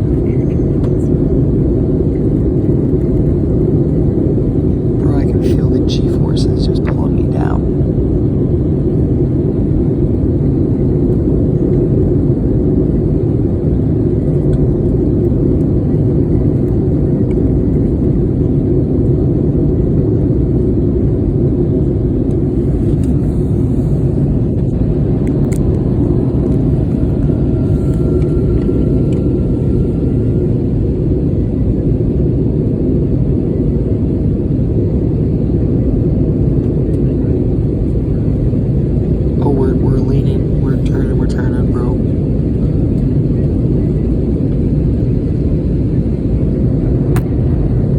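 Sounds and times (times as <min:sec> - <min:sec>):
airliner cabin engine rumble: 0:00.0 - 0:47.9.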